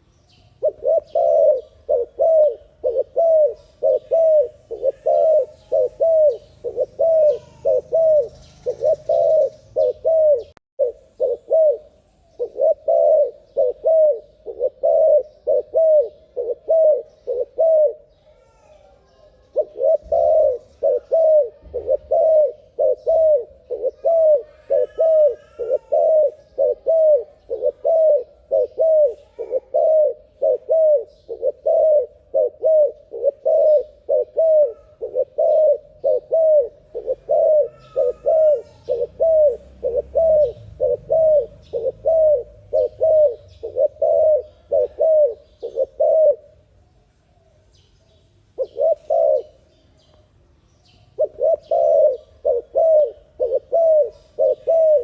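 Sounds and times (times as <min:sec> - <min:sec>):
dove cooing: 0:00.0 - 0:46.7, 0:48.5 - 0:49.8, 0:51.1 - 0:55.0
small bird chirping: 0:00.0 - 0:55.0.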